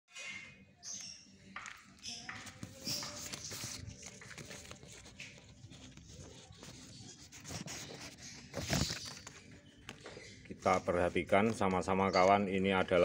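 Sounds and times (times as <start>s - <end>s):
faint rustling and handling: 1.8s - 12.5s.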